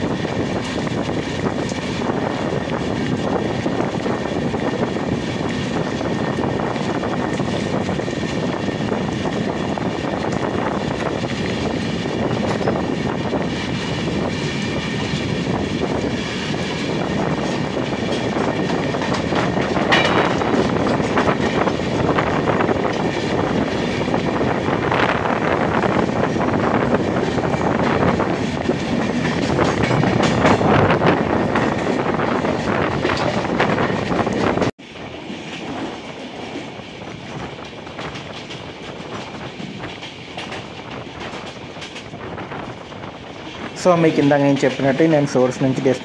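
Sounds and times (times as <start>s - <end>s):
train wheels clattering over rail joints: 0.0s - 43.8s
train passing alongside: 0.0s - 46.0s.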